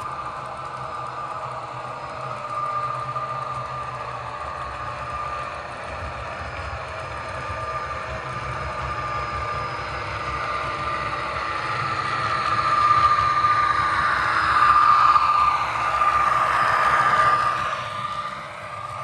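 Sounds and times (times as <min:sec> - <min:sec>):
model train whine: 0:00.0 - 0:19.0.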